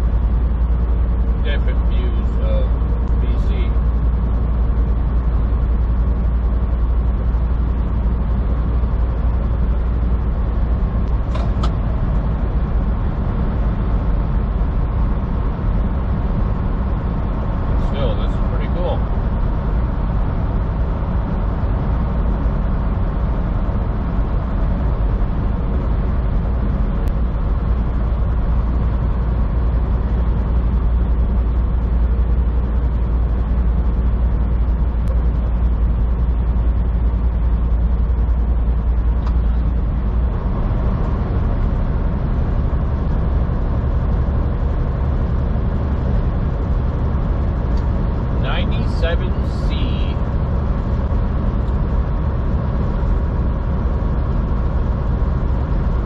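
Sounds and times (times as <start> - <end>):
diesel truck engine droning: 0.0 - 56.0
tyre and road noise: 0.0 - 56.0.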